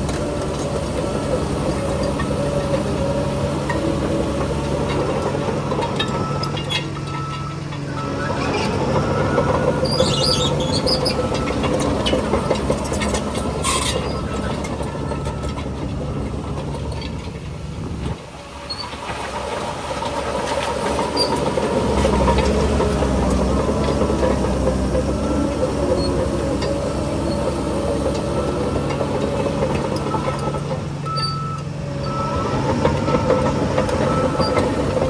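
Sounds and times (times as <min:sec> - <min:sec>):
bulldozer diesel engine running: 0:00.0 - 0:35.0
steel tracks squealing and clanking: 0:00.0 - 0:35.0.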